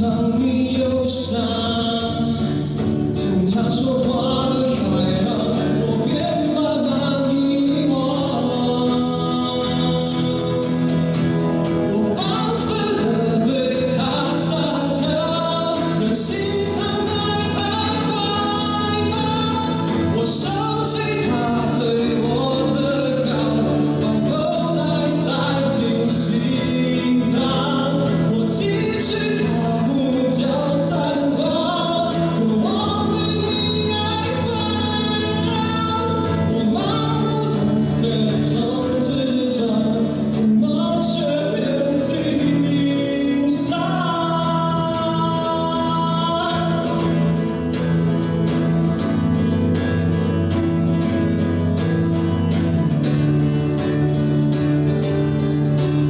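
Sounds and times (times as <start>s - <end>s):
man singing: 0.0s - 56.0s
strummed acoustic guitar: 0.0s - 56.0s.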